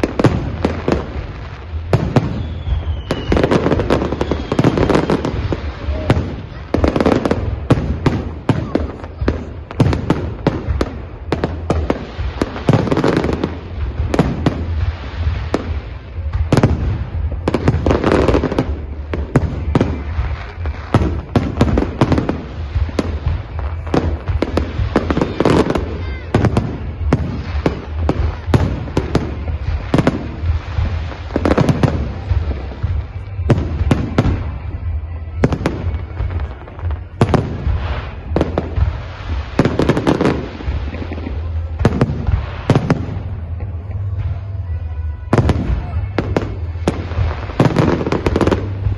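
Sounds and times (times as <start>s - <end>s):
fireworks bursting and banging: 0.0s - 48.9s.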